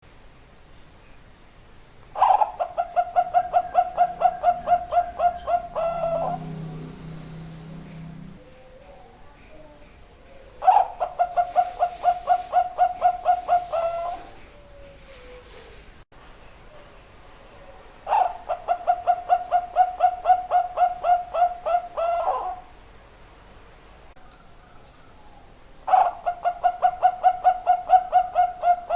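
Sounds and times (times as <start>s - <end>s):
dove cooing: 2.2s - 15.9s, 17.6s - 22.7s, 24.4s - 28.9s.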